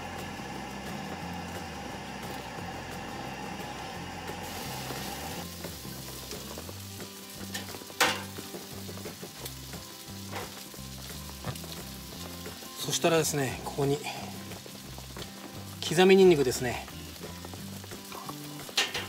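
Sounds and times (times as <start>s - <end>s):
meat sizzling in frying pan: 0.0s - 19.0s.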